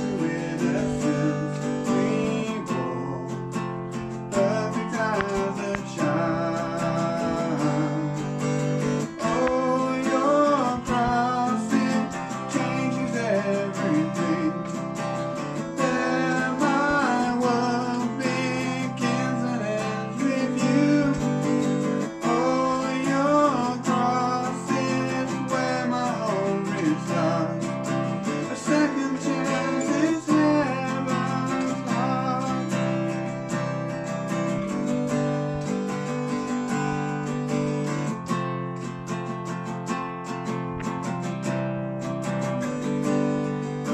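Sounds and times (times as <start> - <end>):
person singing: 0.0 - 38.1
strummed acoustic guitar: 0.0 - 43.9.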